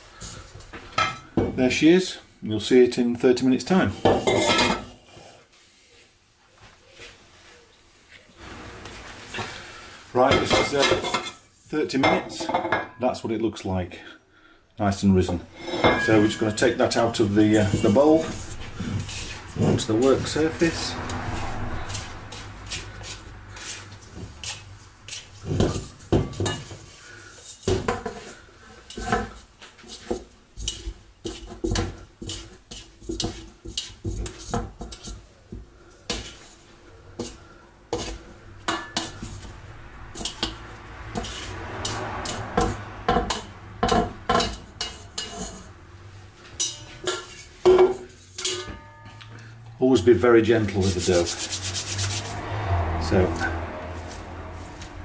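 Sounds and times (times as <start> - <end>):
metal bowl clanking and scraping: 3.6 - 5.0, 9.3 - 13.2, 15.2 - 54.3.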